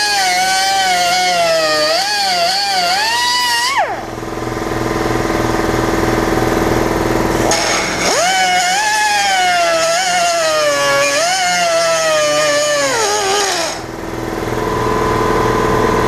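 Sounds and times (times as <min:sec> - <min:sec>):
grinder whining on metal: 0:00.0 - 0:16.0.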